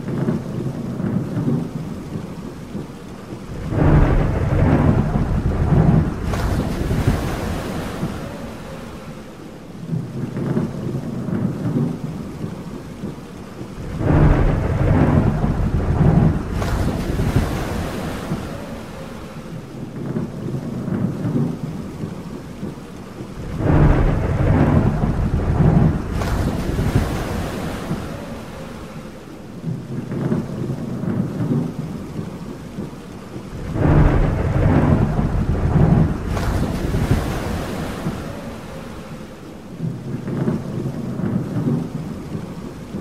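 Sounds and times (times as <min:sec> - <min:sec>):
steady rain: 0:00.0 - 0:43.0
thunder rolling: 0:00.0 - 0:43.0.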